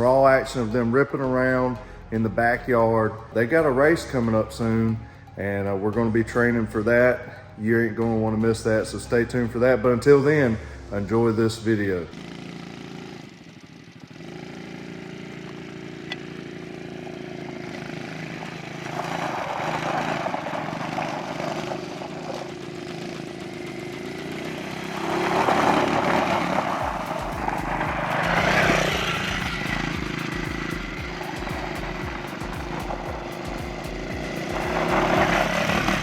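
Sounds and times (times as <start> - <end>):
small atv engines revving high: 0.0 - 36.0.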